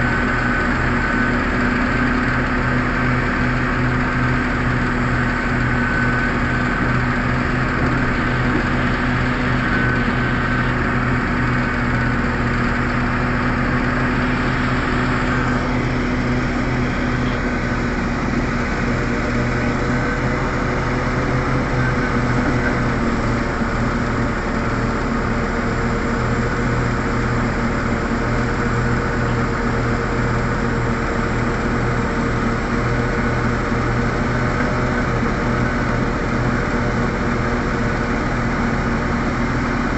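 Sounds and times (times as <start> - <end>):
high steady whine: 0.0 - 39.9
large diesel engines humming: 0.0 - 39.9.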